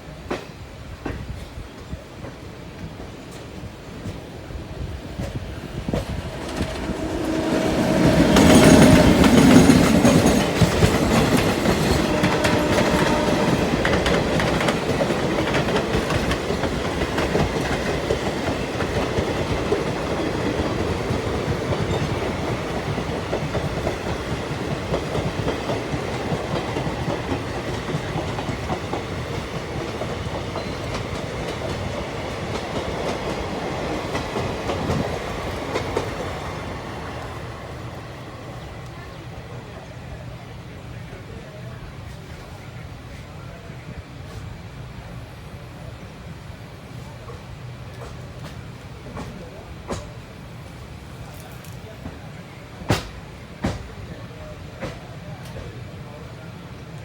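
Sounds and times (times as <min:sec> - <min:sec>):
train wheels clattering on rails: 0:00.1 - 0:39.1, 0:47.2 - 0:55.8.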